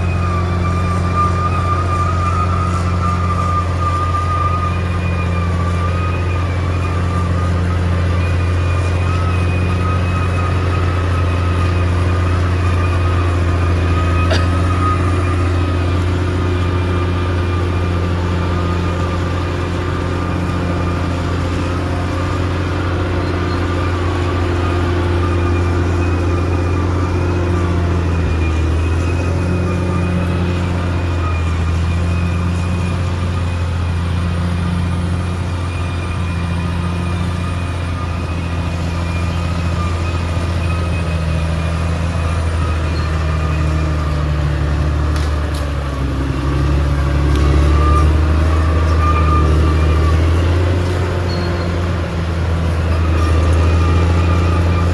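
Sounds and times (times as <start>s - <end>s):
bulldozer diesel engine running: 0.0s - 54.9s
thin steady whine: 0.0s - 54.9s.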